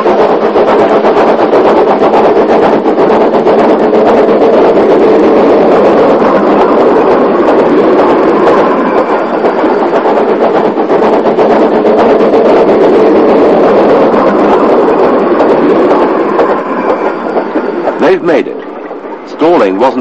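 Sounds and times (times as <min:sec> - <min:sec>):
steam locomotive exhaust beating: 0:00.0 - 0:20.0.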